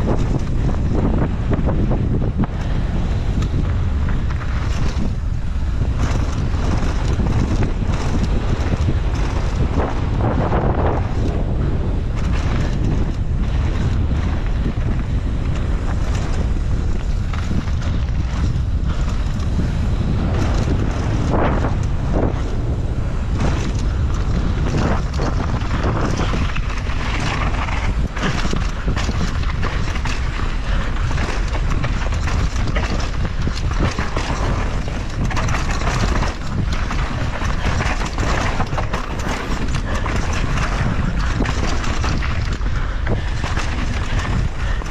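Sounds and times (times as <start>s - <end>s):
bike rattling and knocking: 0.0s - 44.9s
tyres on dirt and gravel: 0.0s - 44.9s
wind buffeting microphone: 0.0s - 44.9s.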